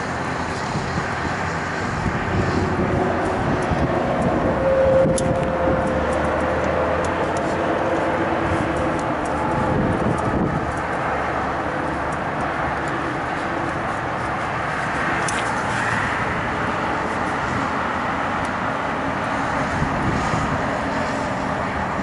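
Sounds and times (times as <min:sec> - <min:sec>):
distant machinery hum: 0:00.0 - 0:22.0
wind: 0:00.0 - 0:22.0.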